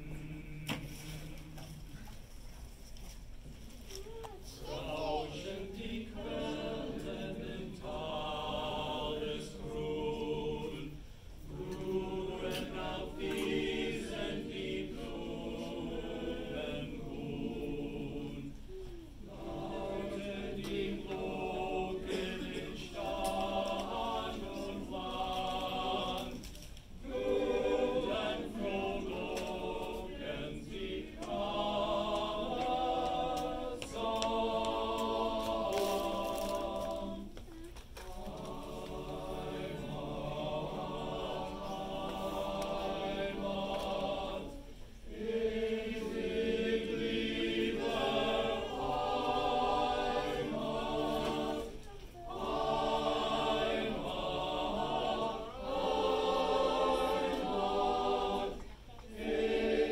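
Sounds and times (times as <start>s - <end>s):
men's choir singing a cappella: 0.0s - 2.0s, 4.6s - 37.4s, 38.0s - 59.9s.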